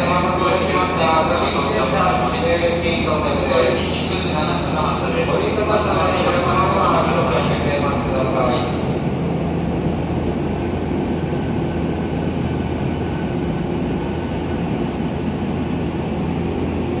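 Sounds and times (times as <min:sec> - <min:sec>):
electric train humming: 0:00.0 - 0:17.0.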